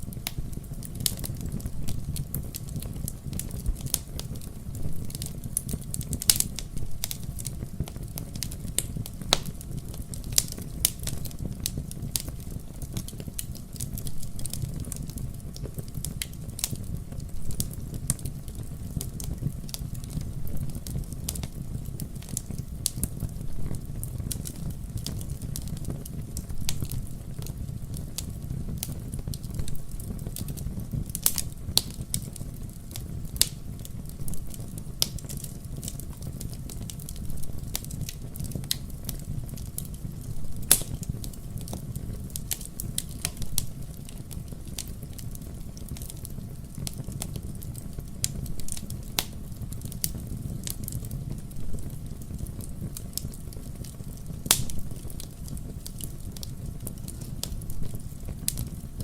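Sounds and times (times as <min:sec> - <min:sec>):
fireplace fire crackling: 0:00.0 - 0:59.0.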